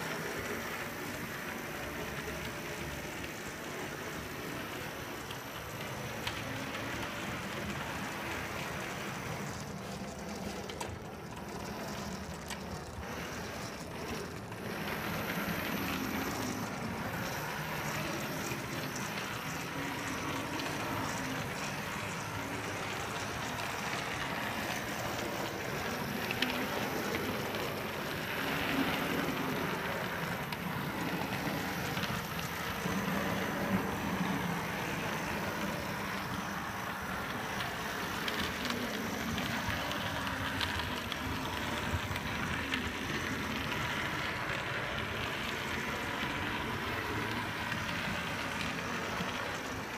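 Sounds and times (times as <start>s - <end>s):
model train wheels rattling: 0.0s - 49.9s.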